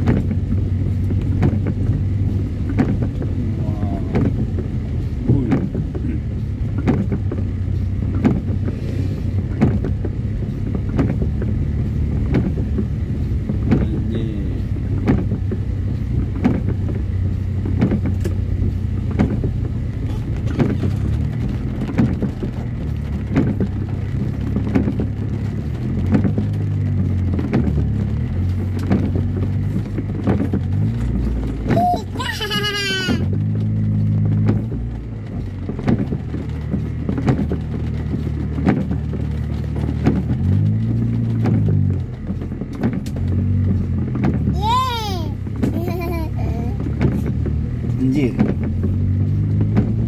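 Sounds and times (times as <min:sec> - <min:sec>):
car engine running: 0:00.0 - 0:50.0
windscreen wipers knocking: 0:00.0 - 0:50.0.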